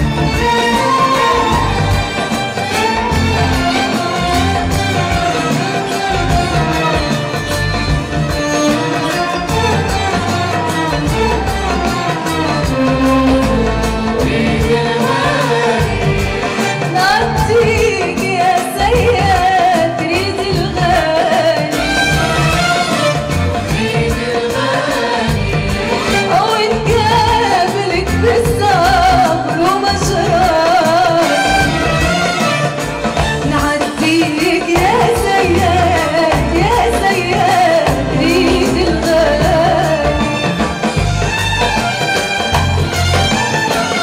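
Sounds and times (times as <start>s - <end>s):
bowed strings: 0.0s - 44.0s
oud: 0.0s - 44.0s.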